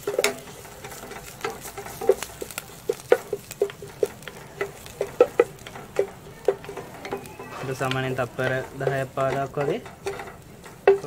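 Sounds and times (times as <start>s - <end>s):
light sizzle of frying: 0.0s - 11.0s
spatula knocking and scraping pot: 0.0s - 11.0s.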